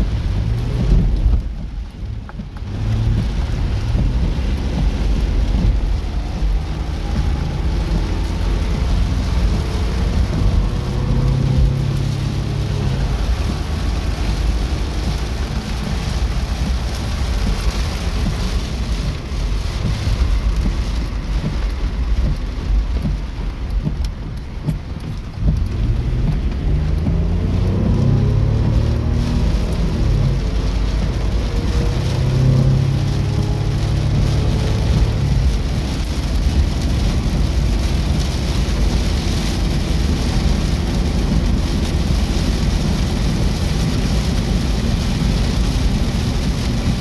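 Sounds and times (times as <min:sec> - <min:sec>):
constant low rumble: 0:00.0 - 0:47.0
heavy rain drumming on vehicle roof: 0:00.0 - 0:47.0.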